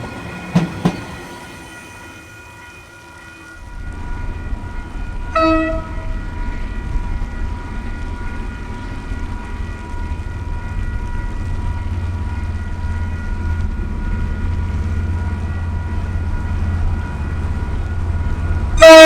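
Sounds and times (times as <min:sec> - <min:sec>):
freight train locomotive rumble: 0:00.0 - 0:19.0
high ringing tone: 0:01.2 - 0:19.0.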